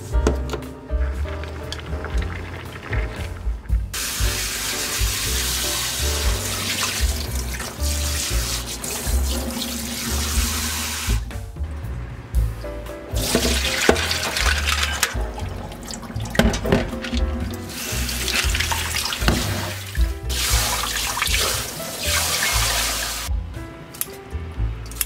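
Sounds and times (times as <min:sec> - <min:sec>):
tap water running into sink: 0:01.2 - 0:11.2, 0:13.1 - 0:23.3.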